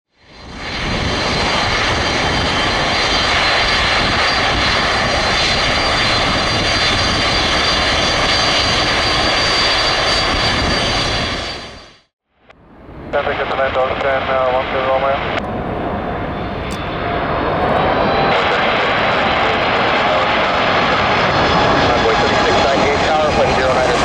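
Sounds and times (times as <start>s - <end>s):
jet engines with high whine: 0.1s - 24.0s.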